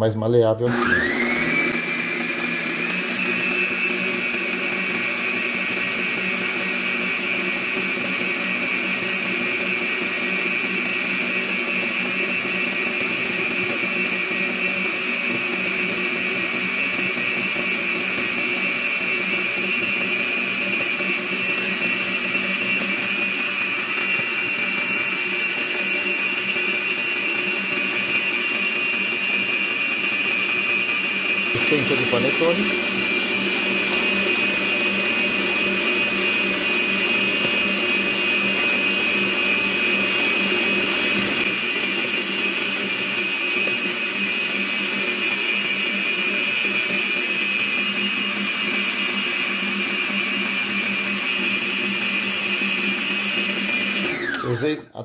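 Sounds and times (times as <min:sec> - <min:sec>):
stand mixer motor whining: 0:00.7 - 0:54.7.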